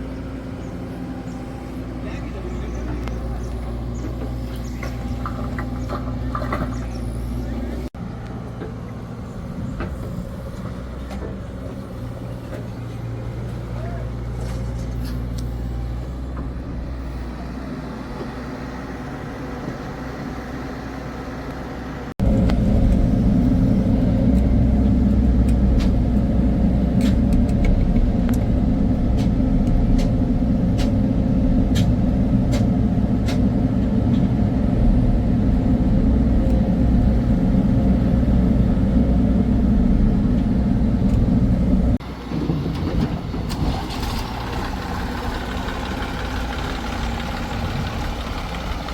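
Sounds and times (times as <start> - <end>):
heavy diesel engines running: 0.0 - 48.9.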